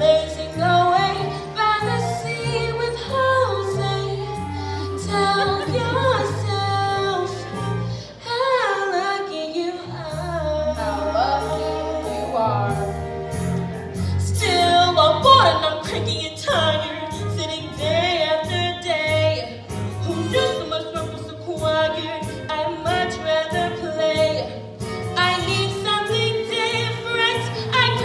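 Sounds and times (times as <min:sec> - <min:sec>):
young woman singing: 0:00.0 - 0:12.9, 0:14.2 - 0:24.6, 0:25.2 - 0:28.0.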